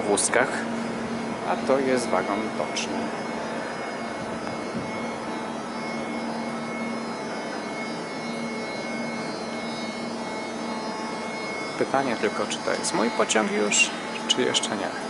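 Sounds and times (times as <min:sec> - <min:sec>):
electric train equipment humming: 0:00.0 - 0:15.0
faint high whine: 0:00.0 - 0:15.0
low steady tone: 0:00.0 - 0:15.0.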